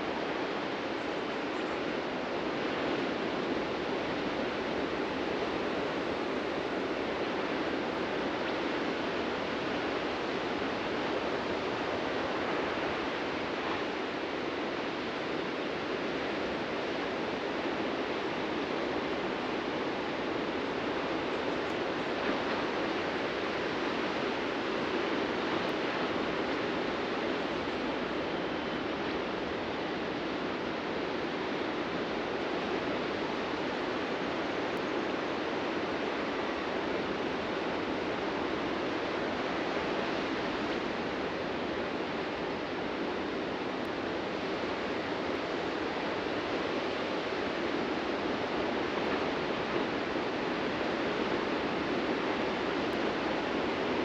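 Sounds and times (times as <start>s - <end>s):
ocean waves breaking: 2.3s - 54.0s.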